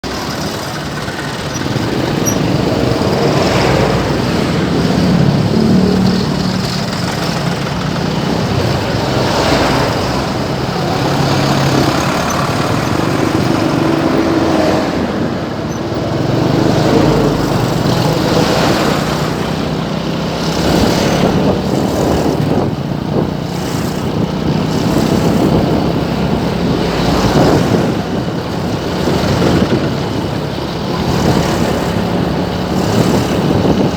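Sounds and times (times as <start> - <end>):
slow-moving traffic engines: 0.0 - 33.9
vehicles passing close: 0.0 - 33.9.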